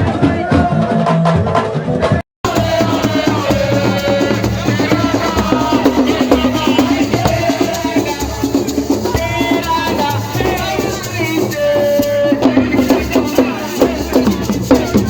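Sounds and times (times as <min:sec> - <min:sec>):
fast dense drumming: 0:02.4 - 0:15.0
person singing: 0:02.4 - 0:15.0.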